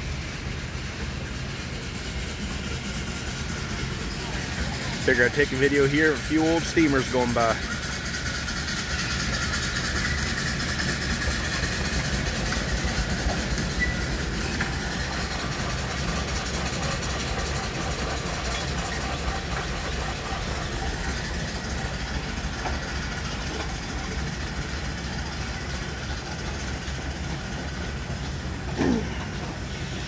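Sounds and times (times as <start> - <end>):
steam engine running: 0.0 - 30.0
steel wheels on brick road: 0.0 - 30.0.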